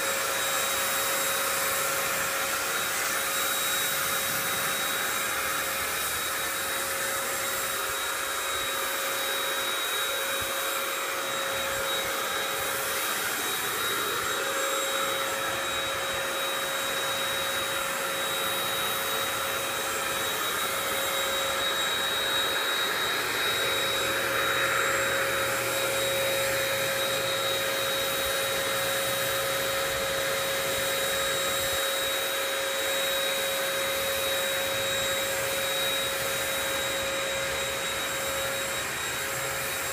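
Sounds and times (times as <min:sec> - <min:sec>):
paint sprayer whine: 0:00.0 - 0:39.9.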